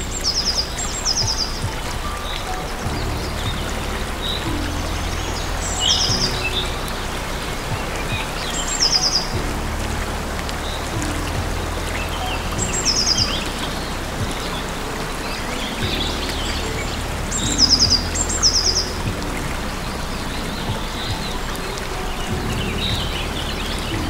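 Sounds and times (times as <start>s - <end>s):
low background rumble: 0.0s - 24.0s
songbird singing: 0.0s - 24.0s.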